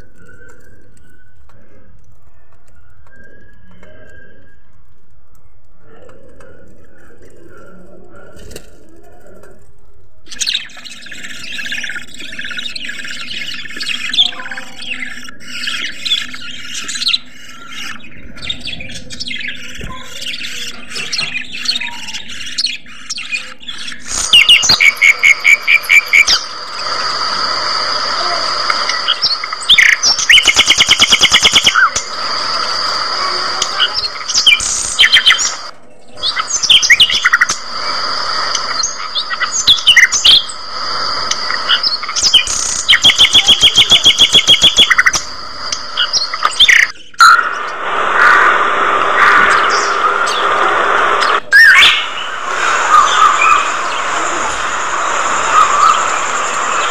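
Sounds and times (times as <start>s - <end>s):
budgerigars chirping: 10.3s - 56.9s.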